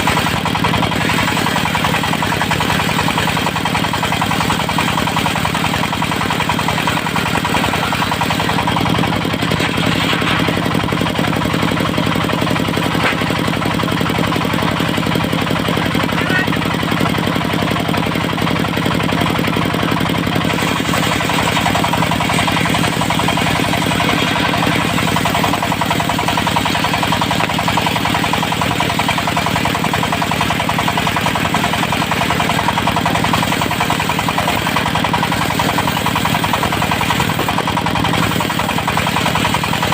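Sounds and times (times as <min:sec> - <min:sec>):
diesel engine knocking steadily: 0:00.0 - 0:39.9.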